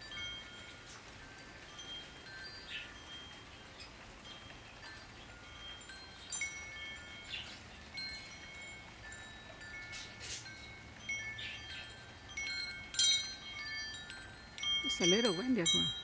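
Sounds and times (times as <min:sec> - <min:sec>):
wind chimes ringing: 0:00.0 - 0:16.0.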